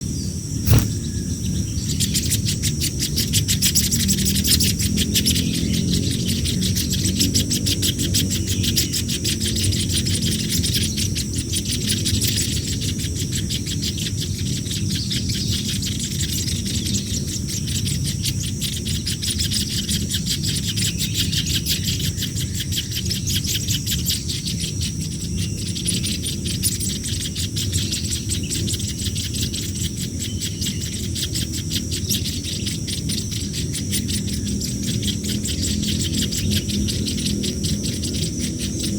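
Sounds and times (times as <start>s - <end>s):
nestlings begging chittering: 0.1s - 38.9s.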